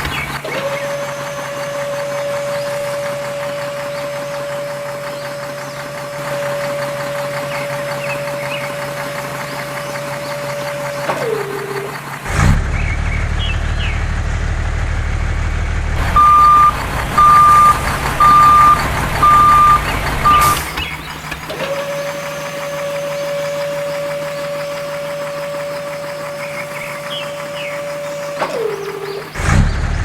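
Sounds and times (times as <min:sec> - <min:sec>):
low hum of small motor: 0:00.0 - 0:11.9, 0:16.1 - 0:29.5
electric motor whining: 0:00.0 - 0:12.2, 0:16.0 - 0:29.6
reversing beeper beeping: 0:00.7 - 0:11.9, 0:16.0 - 0:29.4.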